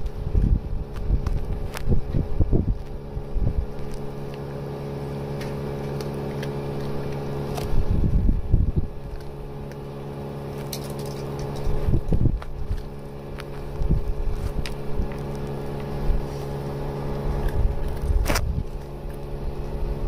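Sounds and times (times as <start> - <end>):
low mechanical hum: 0.0 - 20.0
low rumbles: 0.0 - 20.0.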